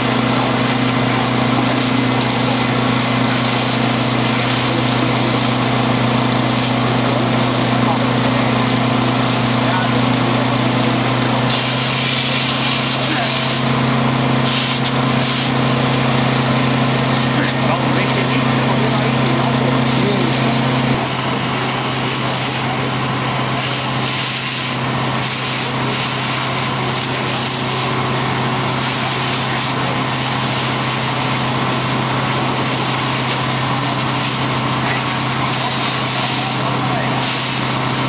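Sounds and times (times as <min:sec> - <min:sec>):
hose streams and fire hissing: 0:00.0 - 0:38.0
pump engine humming: 0:00.0 - 0:38.0.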